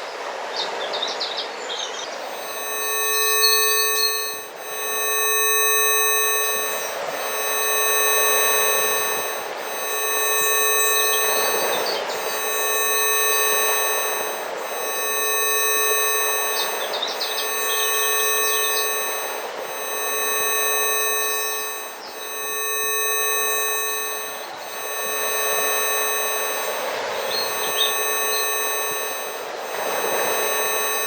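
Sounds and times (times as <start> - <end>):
electronic pure tones: 2.2 - 31.0.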